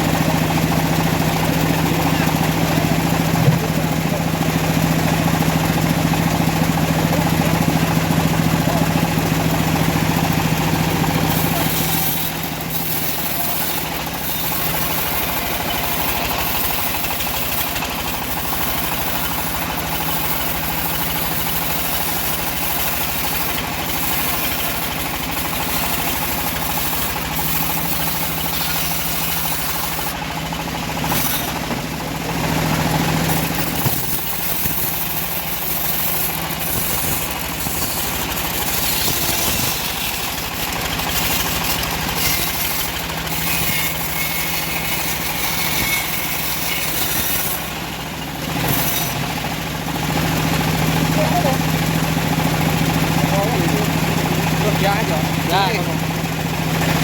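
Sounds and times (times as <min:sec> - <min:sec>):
bandsaw sawmill engine running: 0:00.0 - 0:57.0.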